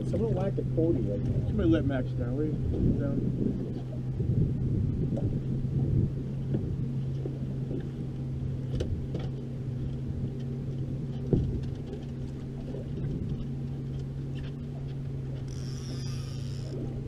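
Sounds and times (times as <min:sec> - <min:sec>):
outboard engine humming: 0:00.0 - 0:17.0.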